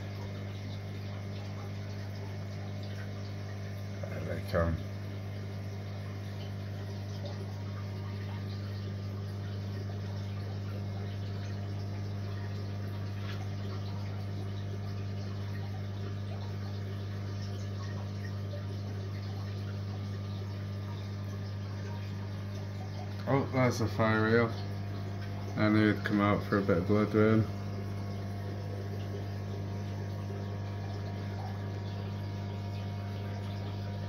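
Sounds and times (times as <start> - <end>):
pump humming: 0.0 - 34.0
water trickling: 0.0 - 34.0.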